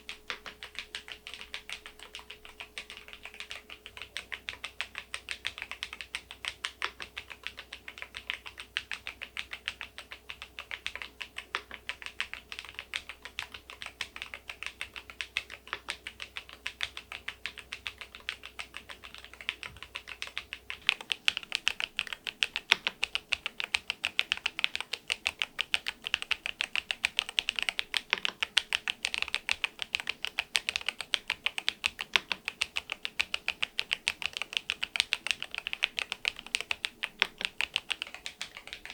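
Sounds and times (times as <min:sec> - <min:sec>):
keyboard typing key clacks: 0:00.0 - 0:38.9.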